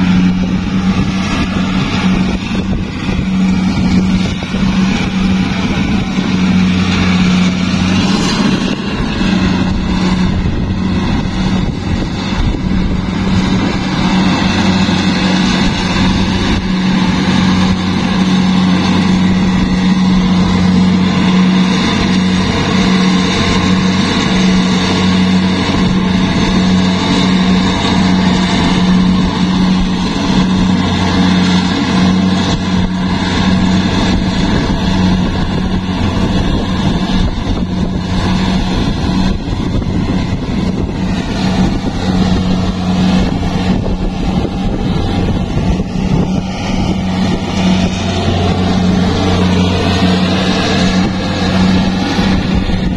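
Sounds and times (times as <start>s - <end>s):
diesel engine droning: 0.0s - 52.9s
harvester machinery clattering: 0.0s - 52.9s.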